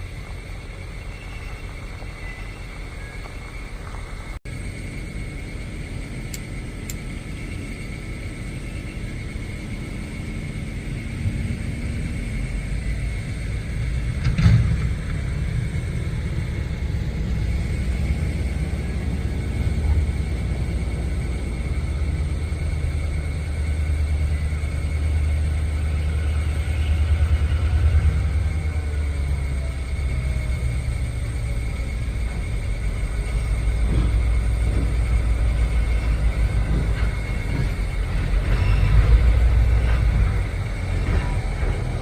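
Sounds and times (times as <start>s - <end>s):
diesel locomotive engine rumbling: 0.0s - 42.0s
high-pitched hum: 0.0s - 42.0s.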